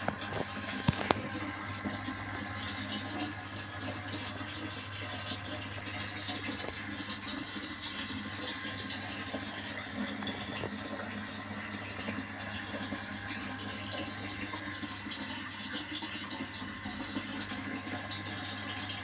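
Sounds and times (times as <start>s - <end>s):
constant low hum: 0.0s - 19.0s
running water in fish tank: 0.0s - 19.0s.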